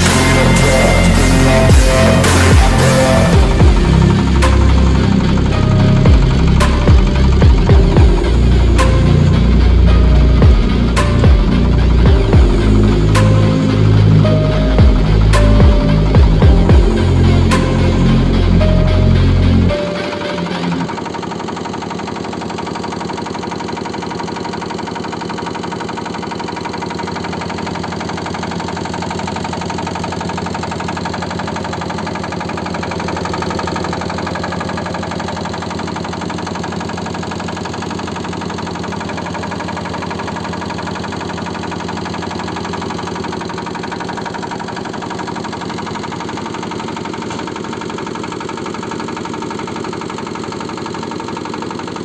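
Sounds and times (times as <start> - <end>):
diesel engine running steadily: 0.0 - 52.0.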